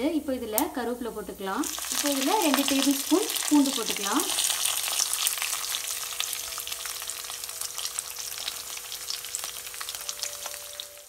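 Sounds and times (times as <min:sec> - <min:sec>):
garlic sizzling in hot oil: 0:00.5 - 0:11.0.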